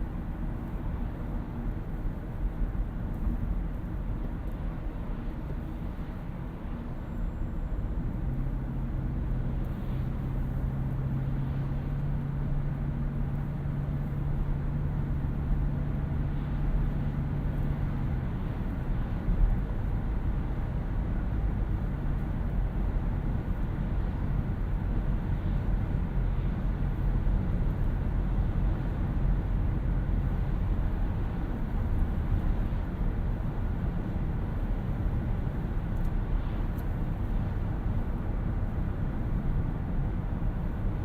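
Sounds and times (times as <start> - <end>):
road and tyre rumble: 0.0 - 41.0.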